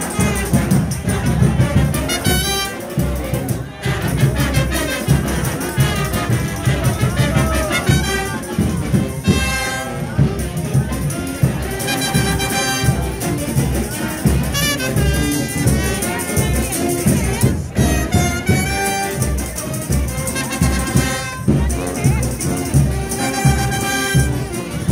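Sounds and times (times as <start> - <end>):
brass band playing: 0.0 - 24.9
steady drum beat: 0.0 - 24.9.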